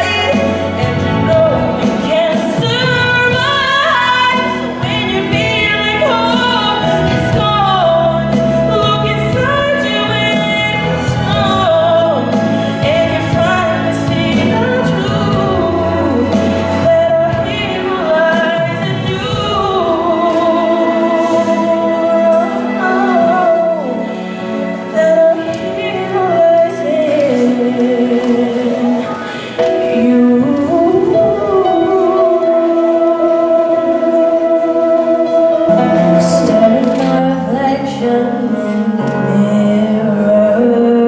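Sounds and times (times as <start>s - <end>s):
instrumental accompaniment: 0.0s - 41.0s
woman singing into microphone: 0.0s - 41.0s.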